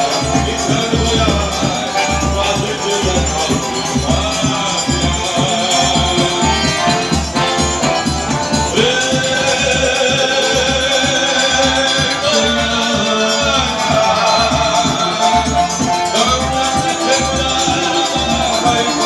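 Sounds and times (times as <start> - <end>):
shaker-like percussion: 0.0 - 19.0.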